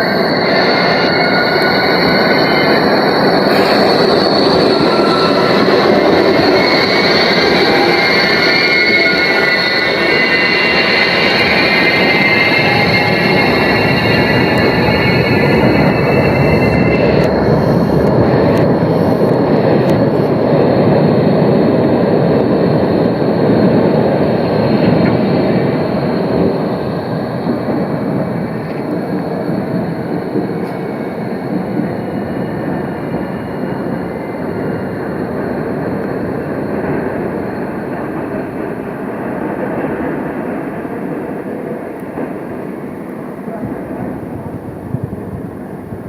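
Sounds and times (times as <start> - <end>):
faint high whine: 0.0 - 46.0
tram wheels rumbling: 0.0 - 46.0.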